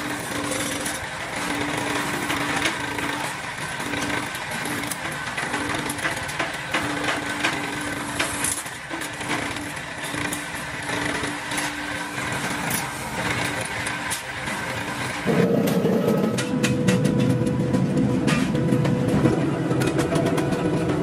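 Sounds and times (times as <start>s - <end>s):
sheet-metal shear humming: 0.0s - 21.0s.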